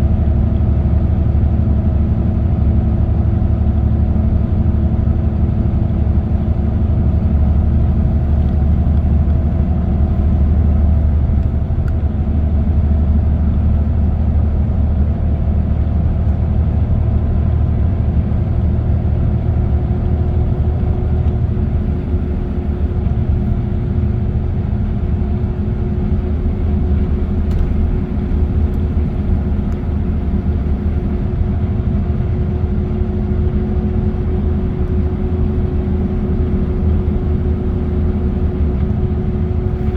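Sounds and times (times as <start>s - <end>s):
engine hum: 0.0s - 39.9s.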